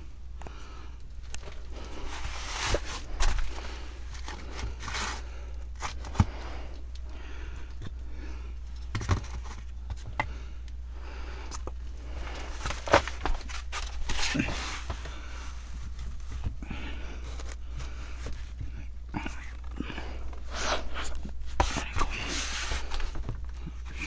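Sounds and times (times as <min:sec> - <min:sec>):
low steady hum: 0:00.0 - 0:24.0
cardboard and plastic rustling: 0:01.2 - 0:06.8, 0:08.8 - 0:10.2, 0:11.5 - 0:24.0.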